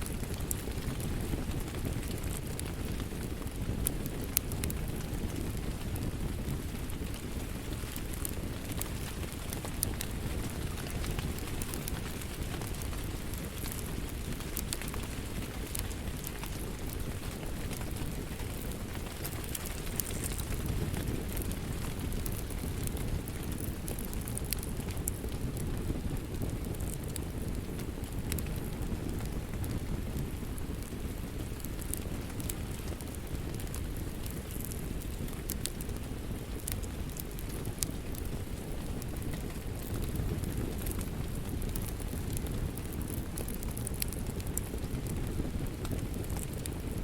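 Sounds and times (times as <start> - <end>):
fire snapping and popping: 0.0 - 47.0
low rumble of flames: 0.0 - 47.0.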